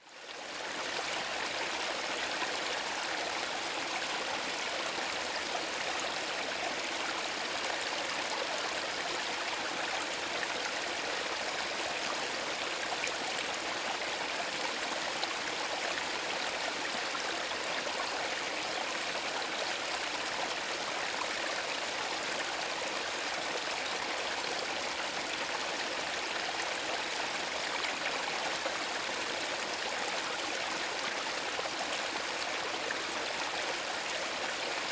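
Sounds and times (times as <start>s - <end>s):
brook babbling over stones: 0.1s - 34.9s.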